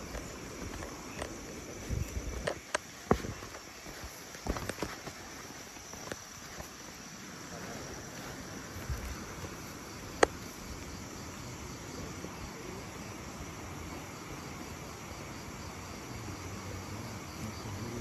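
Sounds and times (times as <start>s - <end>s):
night insects chirring: 0.0s - 18.0s.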